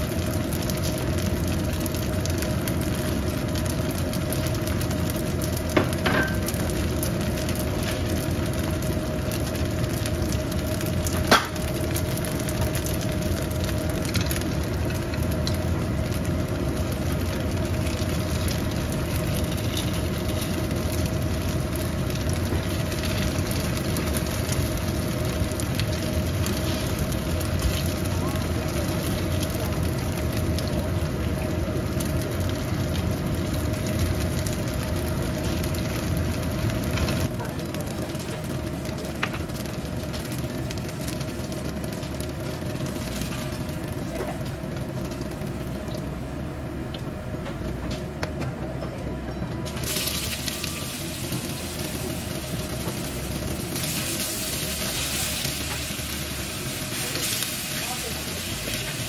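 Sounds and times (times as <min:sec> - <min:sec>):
food sizzling in a pan: 0:00.0 - 0:46.3, 0:49.7 - 0:59.0
steady hum: 0:00.0 - 0:59.0.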